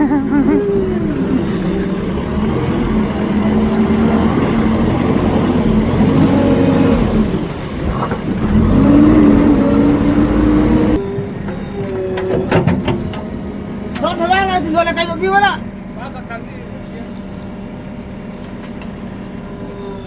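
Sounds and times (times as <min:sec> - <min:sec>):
diesel engine revving: 0:00.0 - 0:16.5.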